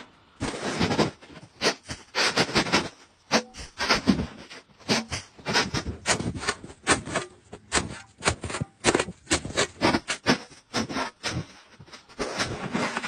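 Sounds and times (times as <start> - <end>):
snow crunching under shovel and boots: 0.0 - 13.0.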